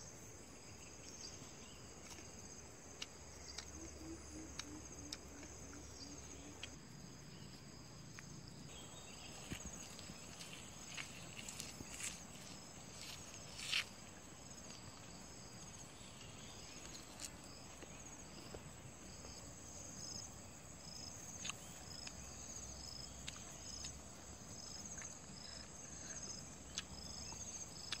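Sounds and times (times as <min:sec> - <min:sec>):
insect pulsing chirp: 0:00.0 - 0:28.0.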